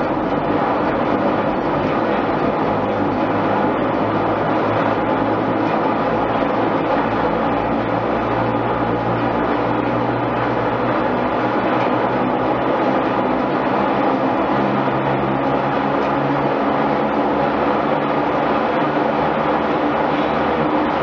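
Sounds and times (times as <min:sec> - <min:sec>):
mill line shafting din: 0:00.0 - 0:21.0.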